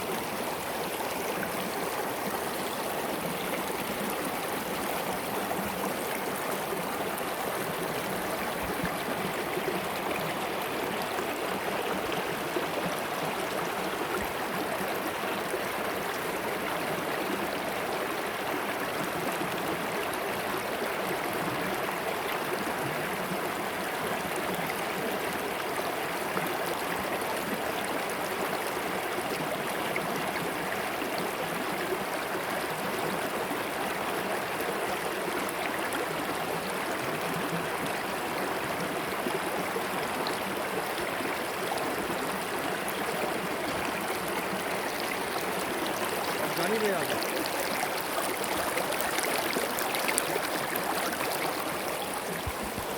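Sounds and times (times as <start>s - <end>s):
stream rushing over stones: 0.0s - 52.9s.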